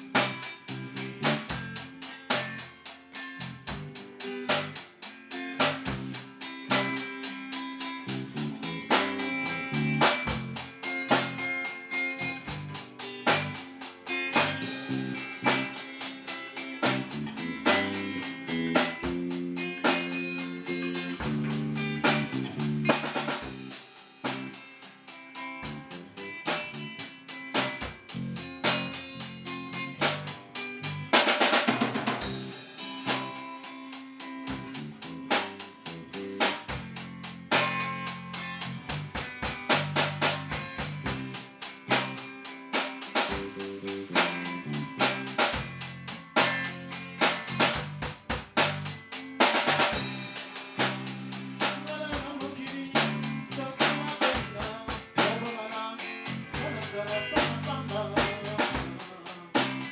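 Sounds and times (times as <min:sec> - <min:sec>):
drum kit playing: 0:00.0 - 0:59.9
electric bass guitar: 0:00.0 - 0:59.9.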